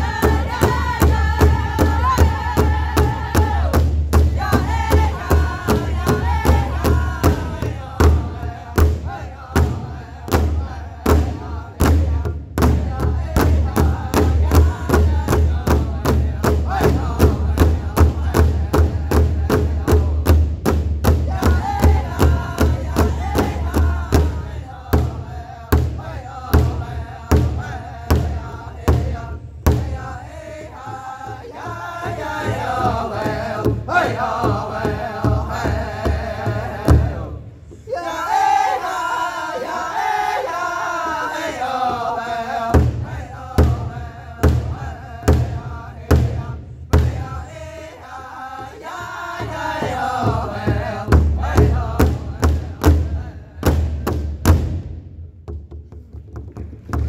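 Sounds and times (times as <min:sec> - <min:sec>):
large hide drum beating: 0:00.0 - 0:37.4, 0:42.7 - 0:47.6, 0:48.6 - 0:57.0
group singing: 0:00.0 - 0:54.4.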